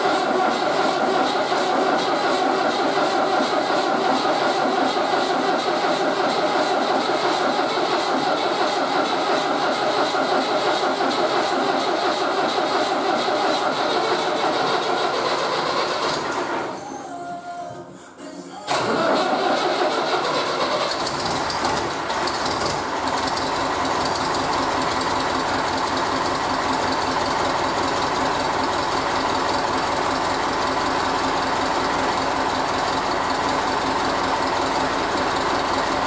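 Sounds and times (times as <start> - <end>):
diesel tractor engine clattering: 0.0 - 16.8, 18.7 - 36.0.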